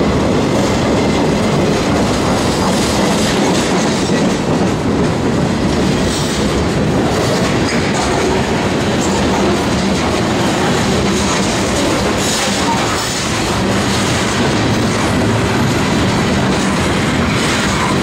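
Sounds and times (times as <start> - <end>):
steel wheels rumbling on rails: 0.0 - 18.0.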